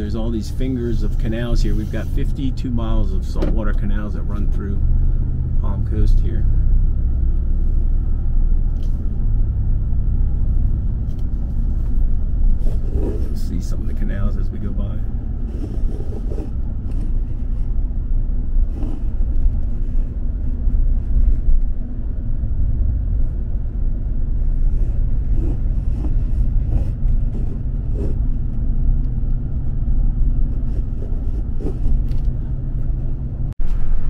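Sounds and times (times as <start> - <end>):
road and engine rumble in cab: 0.0 - 34.0.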